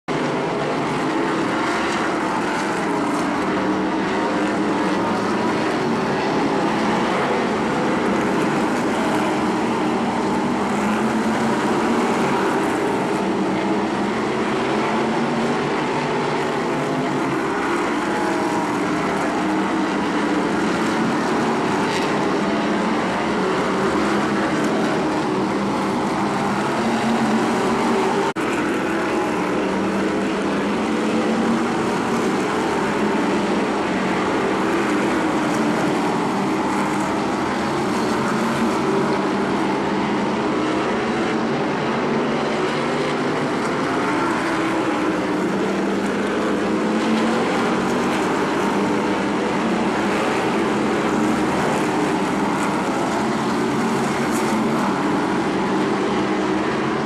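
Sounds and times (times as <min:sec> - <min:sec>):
stock car engines racing: 0:00.1 - 0:57.0.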